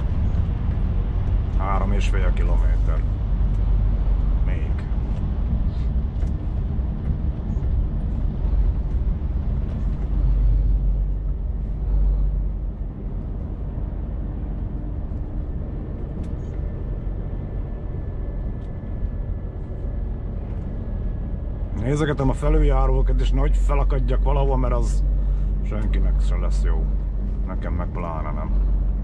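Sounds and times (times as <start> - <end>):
truck diesel engine rumble: 0.0 - 29.0.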